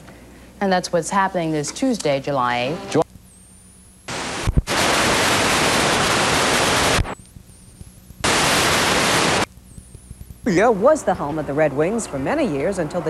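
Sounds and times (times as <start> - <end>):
video static hiss: 0.0 - 12.7.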